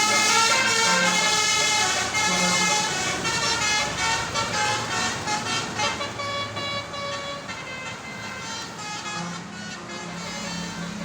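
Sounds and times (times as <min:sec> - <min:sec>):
multi-tone bus horn playing tune: 0:00.0 - 0:11.0.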